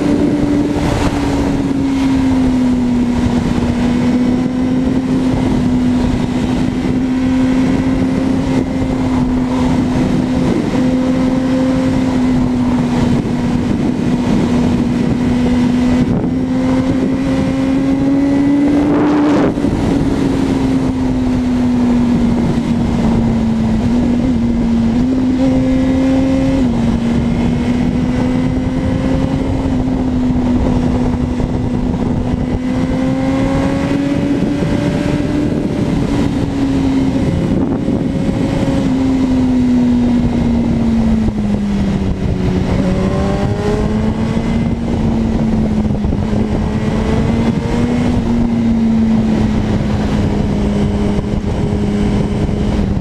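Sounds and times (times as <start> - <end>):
motorcycle engine at high revs: 0.0 - 53.0
wind and road noise: 0.0 - 53.0.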